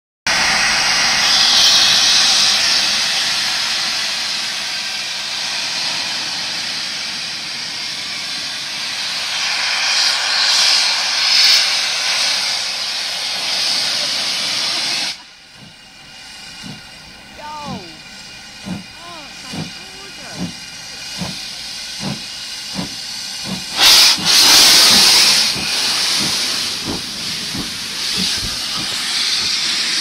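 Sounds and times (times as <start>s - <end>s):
steam engine hissing steam: 0.3s - 30.0s.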